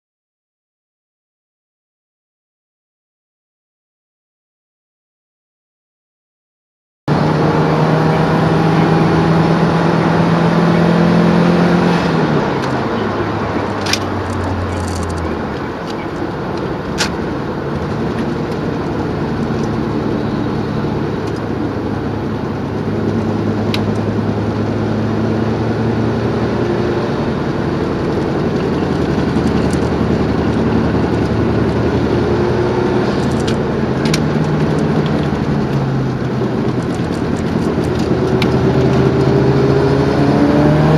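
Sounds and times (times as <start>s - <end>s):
car engine on race track: 7.1s - 40.9s.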